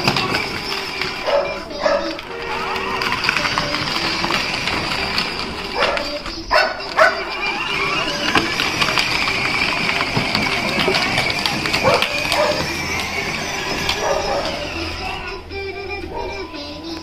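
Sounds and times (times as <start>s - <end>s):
ride-on toy jeep motors whining: 0.0s - 17.0s.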